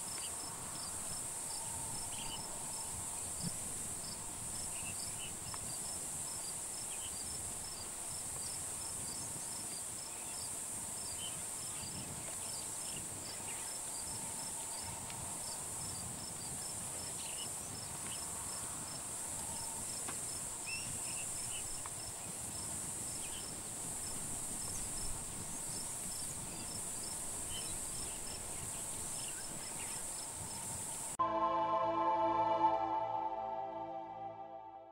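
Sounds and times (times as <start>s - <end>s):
cricket-like chirping: 0.0s - 31.2s
faint short insect calls: 0.0s - 31.2s.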